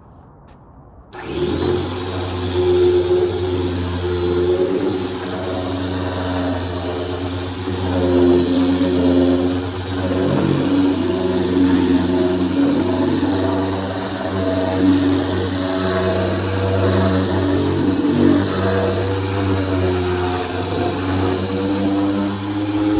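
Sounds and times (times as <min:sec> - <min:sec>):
electric sander on wood: 0:01.2 - 0:22.9.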